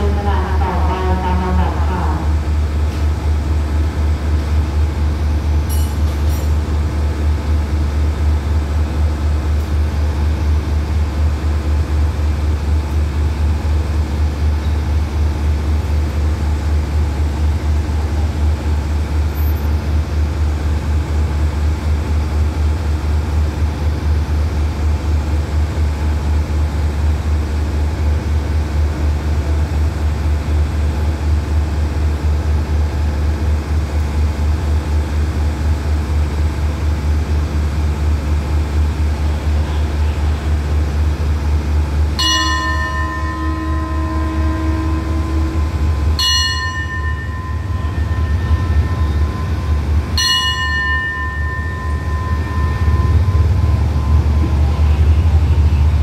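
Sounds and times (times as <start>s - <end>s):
diesel train engine idling: 0.0s - 56.0s.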